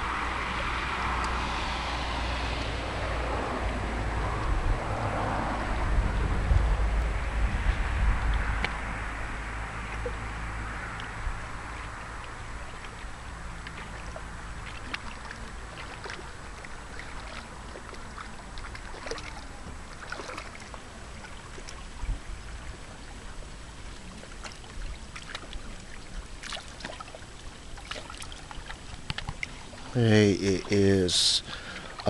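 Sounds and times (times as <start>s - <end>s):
water lapping at shore: 0.0s - 32.0s.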